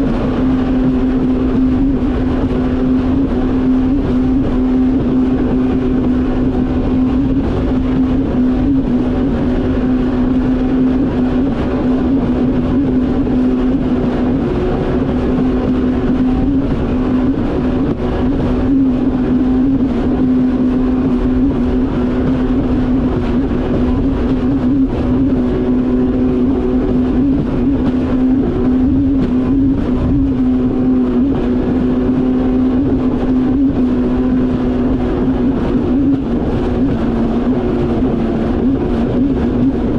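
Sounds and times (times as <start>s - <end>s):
jet ski engine running: 0.0s - 39.9s
rush of wind and water: 0.0s - 39.9s.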